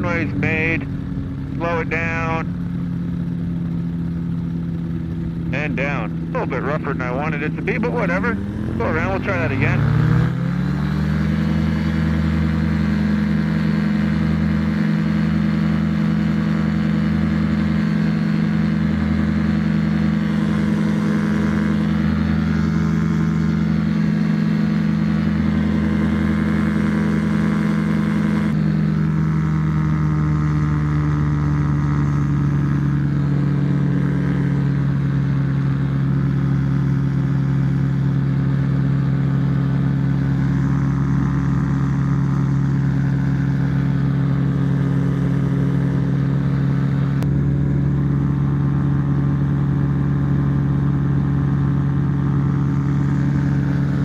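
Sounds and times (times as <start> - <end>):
ultralight aircraft engine running: 0.0 - 54.0.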